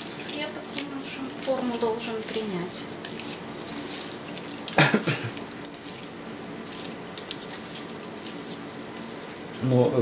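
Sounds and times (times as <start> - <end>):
wet squelching of cheese: 0.5 - 10.0.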